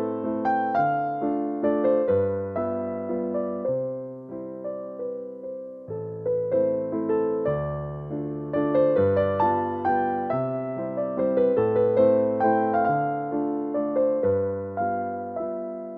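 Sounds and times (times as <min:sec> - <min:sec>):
piano-like keyboard music: 0:00.0 - 0:15.9.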